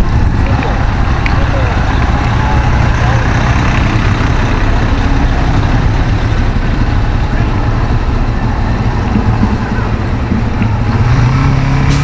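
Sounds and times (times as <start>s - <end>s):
voices: 0.0s - 11.0s
bus passing: 0.0s - 12.0s
deep street rumble: 0.0s - 12.0s.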